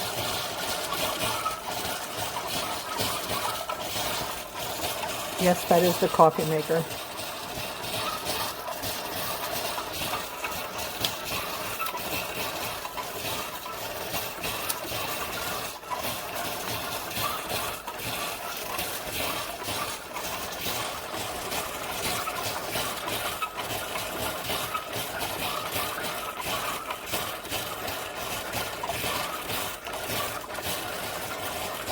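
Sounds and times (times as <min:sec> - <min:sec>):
coffee maker pump running: 0:00.0 - 0:31.9.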